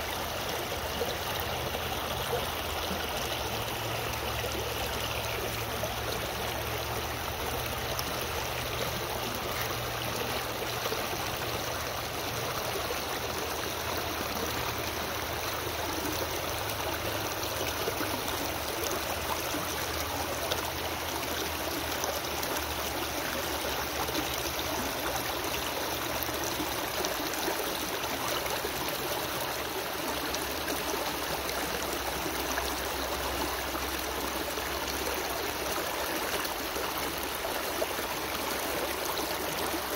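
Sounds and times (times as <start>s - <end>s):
stream splashing over stones: 0.0s - 39.9s.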